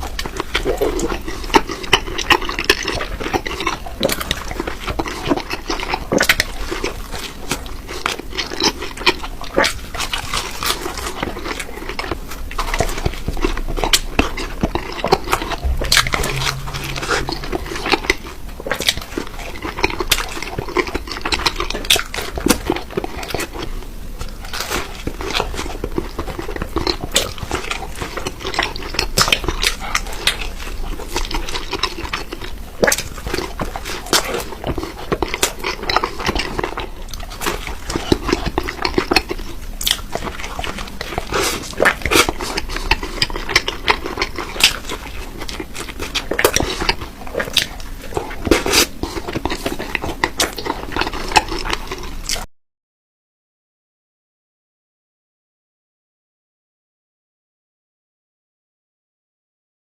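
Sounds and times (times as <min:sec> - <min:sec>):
rapid crunching and chewing: 0:00.0 - 0:15.5, 0:19.8 - 0:52.5.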